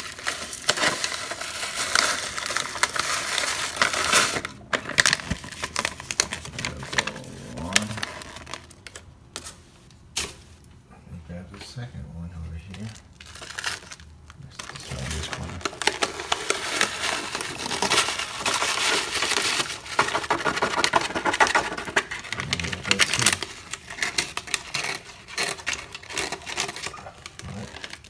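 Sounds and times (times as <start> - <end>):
powder fizzing and crackling: 0.0 - 9.1, 12.6 - 28.0
paper packet crinkling: 0.0 - 9.6, 12.5 - 28.0.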